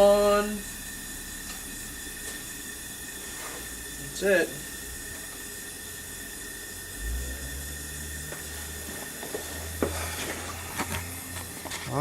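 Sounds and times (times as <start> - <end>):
space heater hissing: 0.0 - 12.0.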